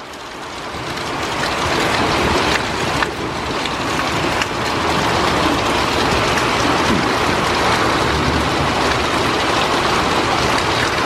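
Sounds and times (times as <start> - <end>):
rain: 0.0 - 11.0.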